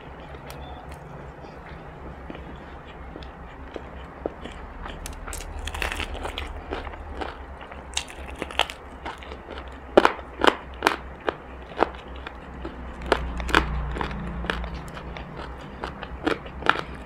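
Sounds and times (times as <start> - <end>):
crunchy chewing: 0.0 - 17.0
low steady hum: 0.0 - 17.0.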